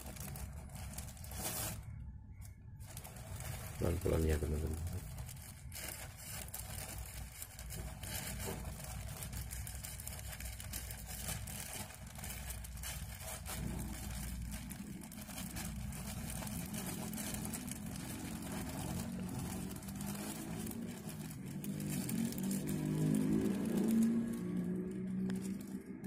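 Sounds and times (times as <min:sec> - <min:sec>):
plastic bag crinkling: 0:00.0 - 0:02.1, 0:02.7 - 0:26.0
low rumble: 0:00.0 - 0:26.0.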